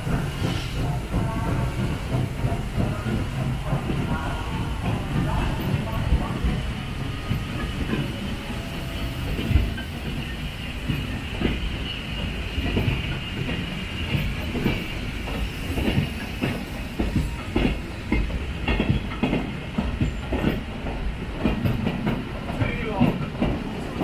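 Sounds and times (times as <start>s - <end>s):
train wheels knocking on rails: 0.0s - 24.0s.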